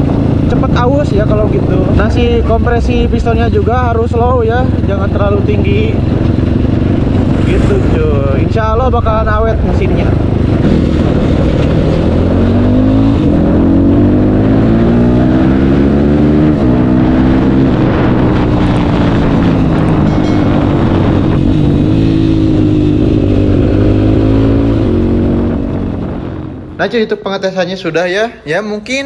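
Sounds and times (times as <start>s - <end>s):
motorcycle engine revving: 0.0s - 26.8s.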